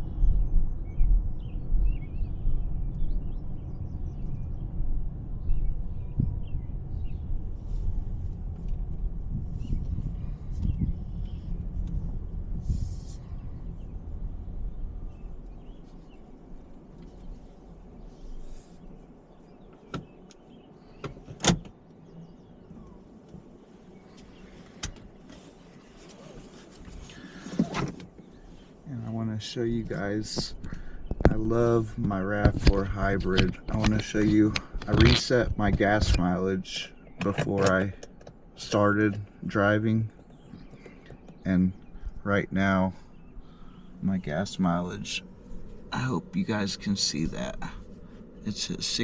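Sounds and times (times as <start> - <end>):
birds chirping: 0.0 - 49.0
car rolling at low speed: 0.0 - 49.0
low road rumble: 0.0 - 49.0.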